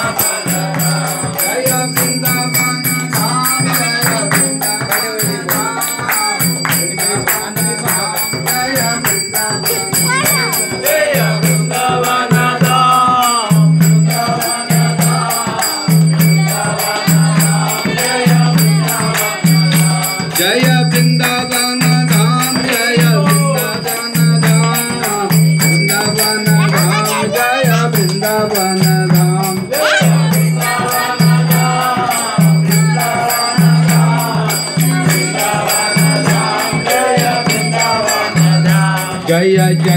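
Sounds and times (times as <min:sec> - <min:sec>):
hand-clapping: 0:00.0 - 0:11.2, 0:14.2 - 0:39.9
rapid high jingling: 0:00.0 - 0:39.9.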